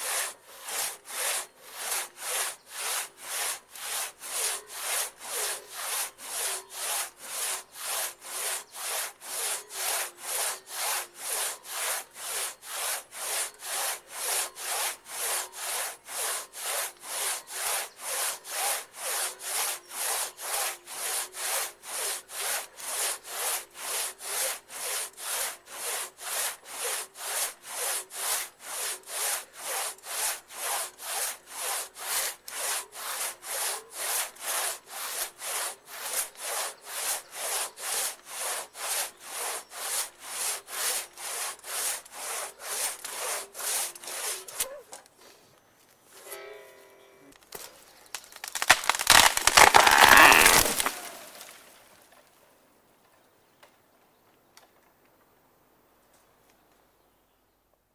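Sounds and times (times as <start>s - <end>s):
hand saw cutting wood: 0.0s - 45.4s, 47.6s - 51.7s.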